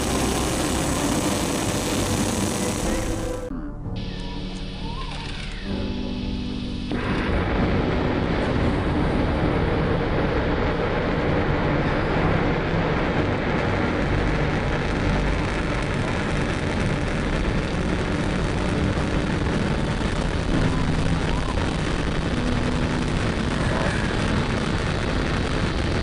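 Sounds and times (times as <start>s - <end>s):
rocket engine roaring: 0.0s - 26.0s.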